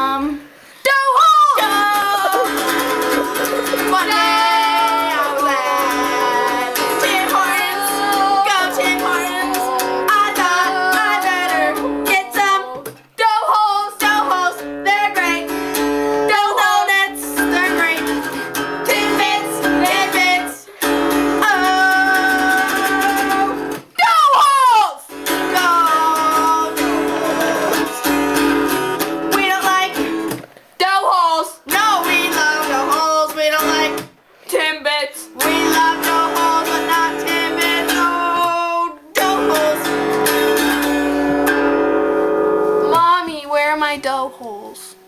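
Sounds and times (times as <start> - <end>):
girls singing: 0.0 - 41.1
acoustic guitar strumming: 1.4 - 24.0, 25.1 - 30.6, 31.7 - 34.2, 35.2 - 44.2.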